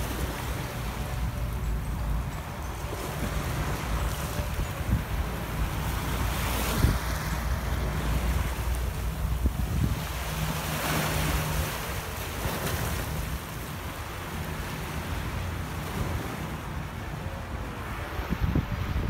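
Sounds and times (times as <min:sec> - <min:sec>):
wind buffeting microphone: 0:00.0 - 0:14.2, 0:17.9 - 0:19.0
sea waves washing on shore: 0:00.0 - 0:19.0.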